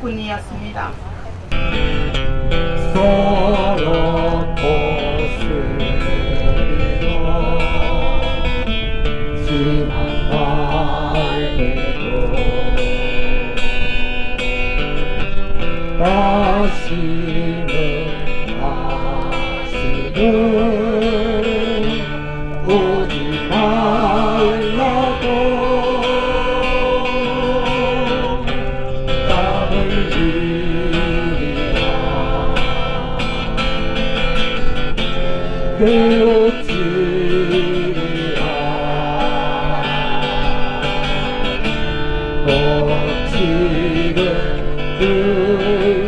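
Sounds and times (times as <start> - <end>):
guitar accompaniment: 0.0 - 46.0
slow melody with vibrato: 1.5 - 46.0.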